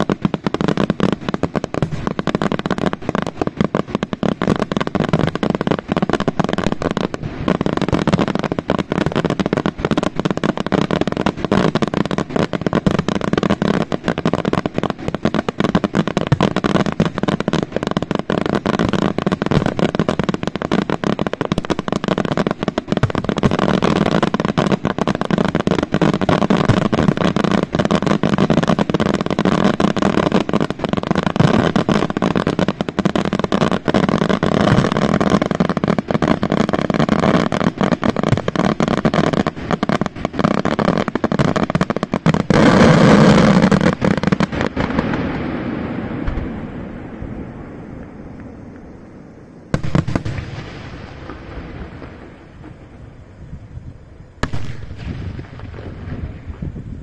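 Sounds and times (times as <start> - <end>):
fireworks bursts and crackling: 0.0 - 57.0.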